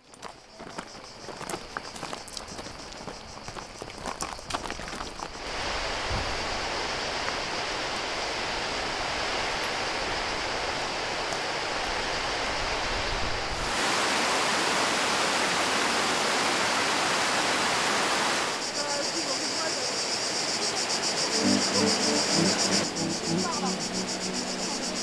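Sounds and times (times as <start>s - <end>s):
cascading river water: 0.0s - 25.0s.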